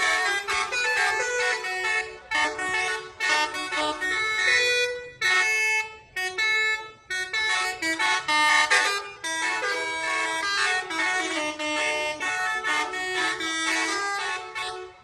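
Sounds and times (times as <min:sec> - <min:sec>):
multi-trumpet air horn playing tune: 0:00.0 - 0:15.0.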